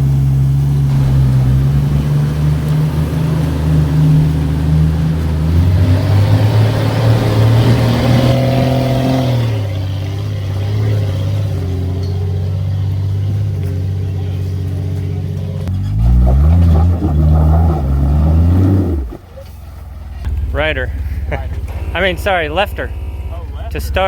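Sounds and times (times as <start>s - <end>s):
car engine running under load: 0.0s - 24.0s.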